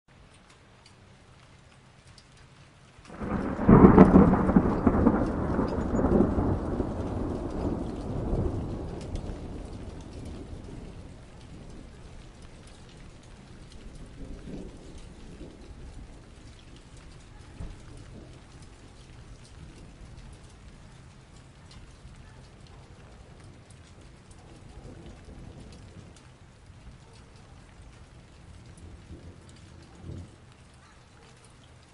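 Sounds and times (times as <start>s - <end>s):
hail pattering: 0.1s - 31.9s
thunderclap rumbling: 3.1s - 30.6s.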